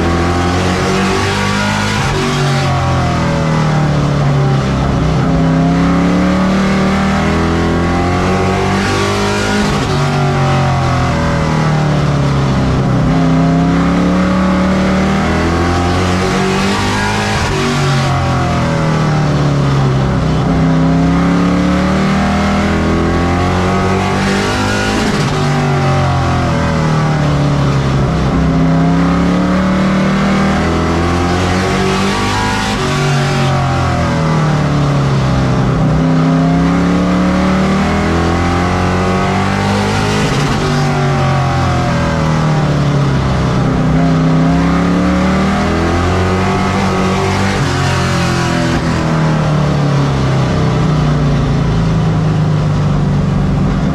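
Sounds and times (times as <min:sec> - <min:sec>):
race truck engine accelerating: 0:00.0 - 0:53.9.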